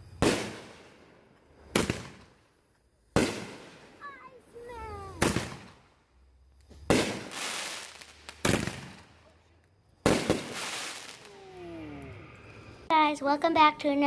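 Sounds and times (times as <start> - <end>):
fireworks banging and crackling: 0.0 - 6.0, 6.6 - 14.0.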